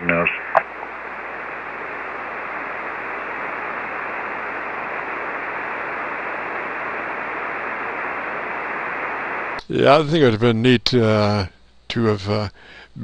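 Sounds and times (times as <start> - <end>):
radio static hissing: 0.0 - 13.0.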